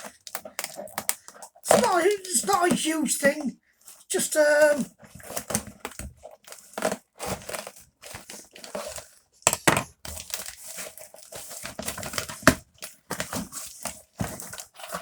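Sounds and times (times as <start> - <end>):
packaging tearing and crinkling: 0.0 - 3.1, 5.2 - 15.0.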